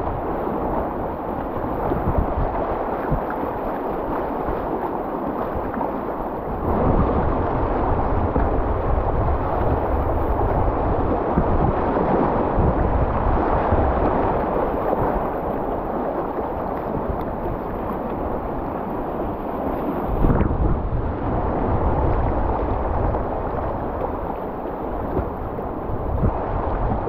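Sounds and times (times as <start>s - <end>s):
paddle strokes in water: 0.0s - 20.5s, 21.8s - 26.4s.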